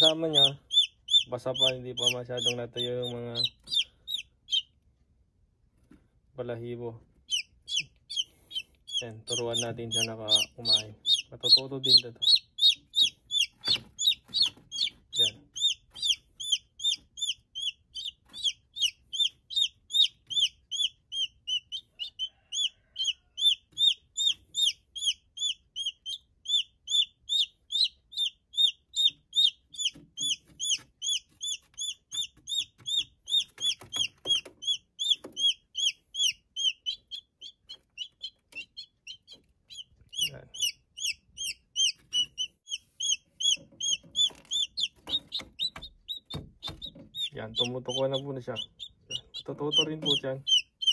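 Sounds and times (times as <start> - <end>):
chick peeping: 0.0 - 5.1, 5.8 - 50.9.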